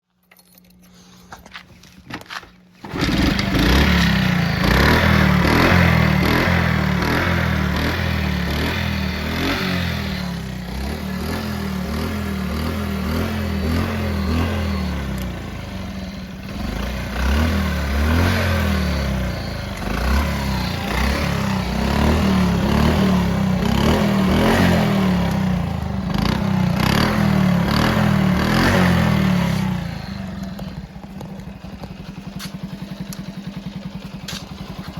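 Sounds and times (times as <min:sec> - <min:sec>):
small motorcycle engine running: 0:02.8 - 0:34.9.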